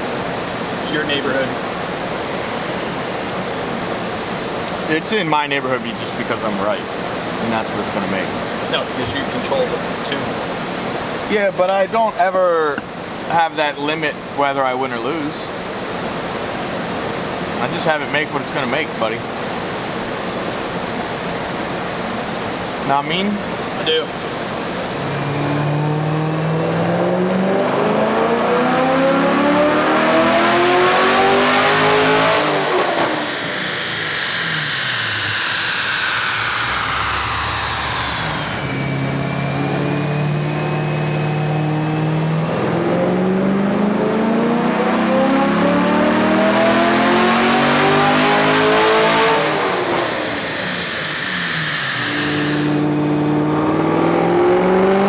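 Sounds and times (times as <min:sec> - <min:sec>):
engine revving on dyno: 0:00.0 - 0:55.0
high whine: 0:00.0 - 0:55.0.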